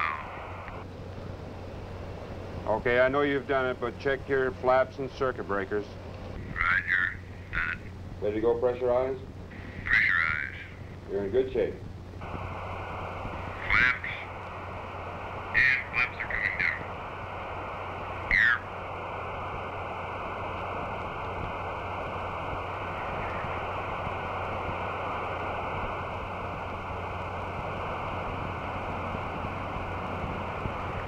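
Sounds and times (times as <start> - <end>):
warbling radio chirps: 0.0 - 0.8, 2.9 - 11.1, 12.0 - 31.0
radio static hiss: 0.0 - 31.0.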